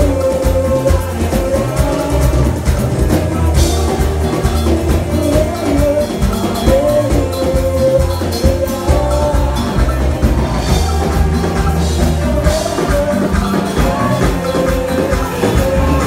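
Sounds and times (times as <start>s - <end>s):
loud band music: 0.0s - 16.0s.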